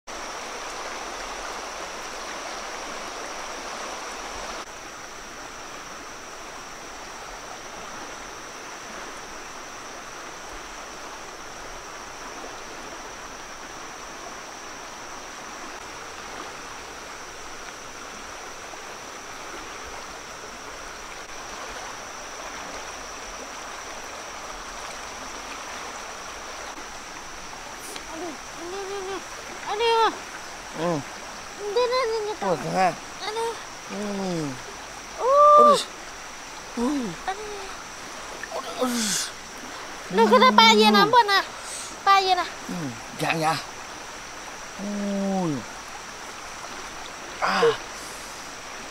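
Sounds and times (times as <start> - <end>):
stream water rushing: 0.1 - 48.9.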